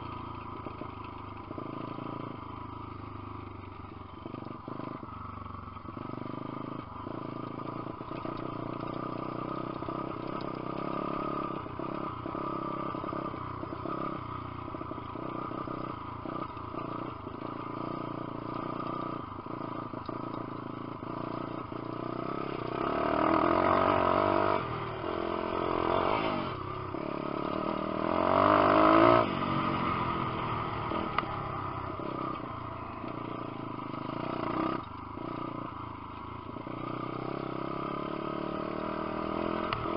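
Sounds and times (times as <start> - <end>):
clatter: 0.0 - 25.2, 30.1 - 38.4
motorbike engine running: 0.0 - 39.9.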